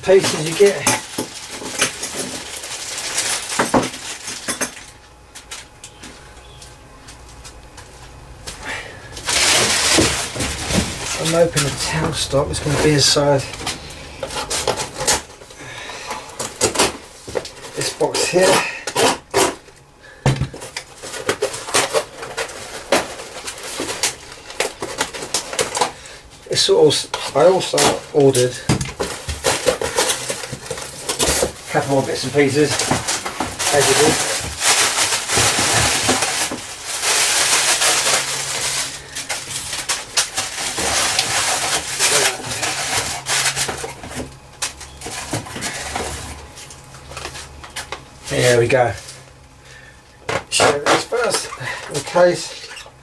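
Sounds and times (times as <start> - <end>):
packaging rustling and crinkling: 0.0 - 5.7, 9.1 - 19.6, 20.5 - 26.0, 27.2 - 49.3.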